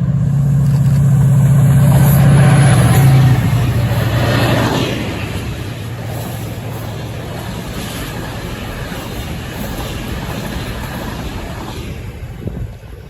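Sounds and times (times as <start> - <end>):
low locomotive engine hum: 0.0 - 13.0
train wheels rumbling on rail: 0.0 - 13.0.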